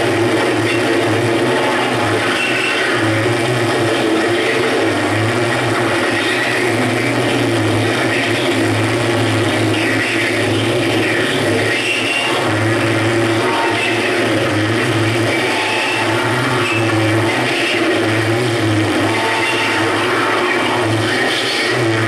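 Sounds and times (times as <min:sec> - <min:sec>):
distorted hiss: 0:00.0 - 0:22.0
low drone: 0:00.0 - 0:22.0.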